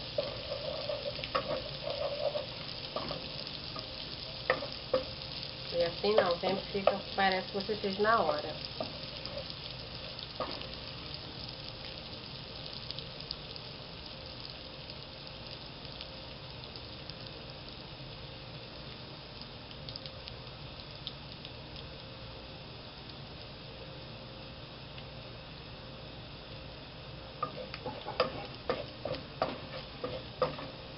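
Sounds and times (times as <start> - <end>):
small crackles: 0.0 - 22.2, 27.4 - 30.9
oil sizzling in a pot: 0.0 - 30.9.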